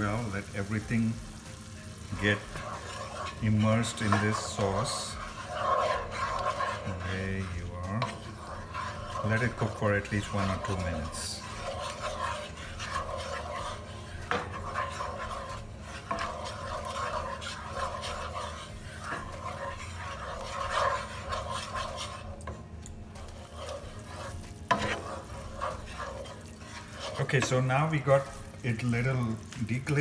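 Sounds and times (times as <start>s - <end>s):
sauce sizzling: 0.0s - 30.0s
wooden spatula scraping skillet: 0.0s - 30.0s.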